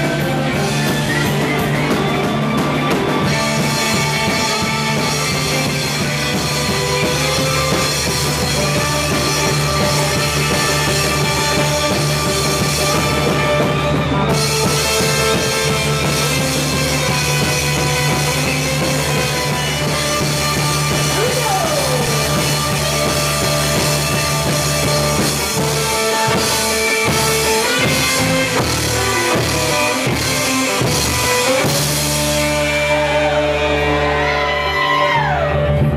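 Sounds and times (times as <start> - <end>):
drum kit: 0.0 - 35.9
electric bass: 0.0 - 35.9
electric guitar: 0.0 - 35.9.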